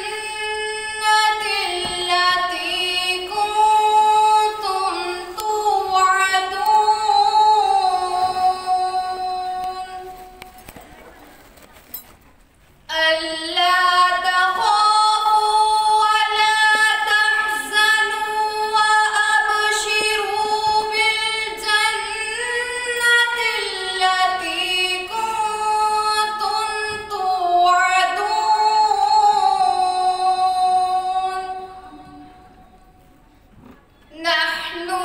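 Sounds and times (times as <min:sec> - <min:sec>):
woman chanting melodically: 0:00.0 - 0:10.8, 0:12.9 - 0:33.0, 0:34.1 - 0:35.0.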